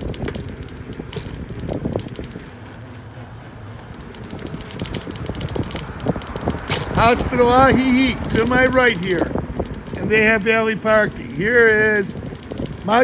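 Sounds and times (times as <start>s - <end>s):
bicycle rattling and clicking: 0.0s - 13.0s
steady low rumble: 0.0s - 13.0s.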